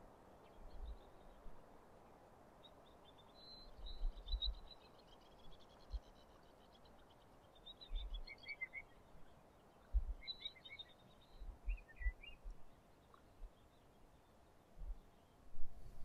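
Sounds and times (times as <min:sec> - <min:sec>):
faint outdoor hiss: 0:00.0 - 0:16.0
small birds chirping: 0:00.3 - 0:16.0.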